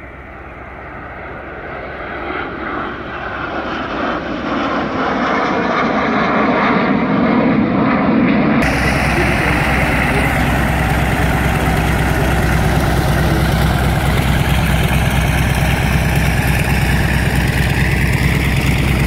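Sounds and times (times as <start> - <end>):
propeller plane engine idling: 0.0 - 19.0
jet flying past: 0.2 - 19.0.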